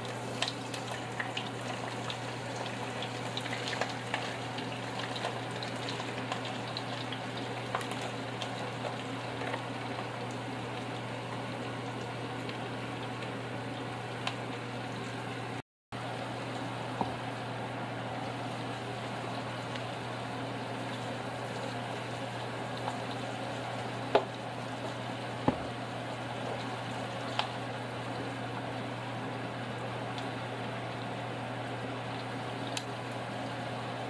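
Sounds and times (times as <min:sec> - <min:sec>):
food bubbling on stove: 0:00.0 - 0:34.0.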